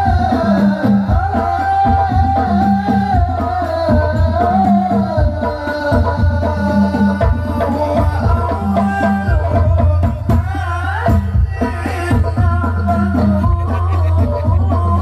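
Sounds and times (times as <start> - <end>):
frame drums beating: 0.0 - 15.0
men singing devotional song: 0.0 - 15.0.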